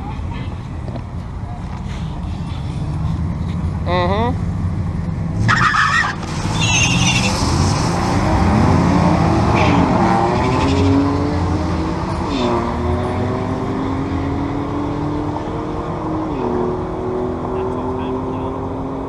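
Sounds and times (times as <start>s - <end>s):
vehicle engine accelerating: 1.8s - 19.0s.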